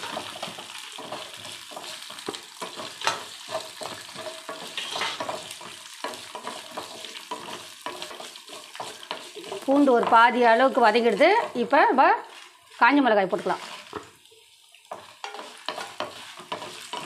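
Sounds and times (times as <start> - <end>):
wooden spatula scraping pan: 0.0 - 14.2, 14.9 - 17.0
lentils and garlic sizzling in oil: 0.0 - 17.0.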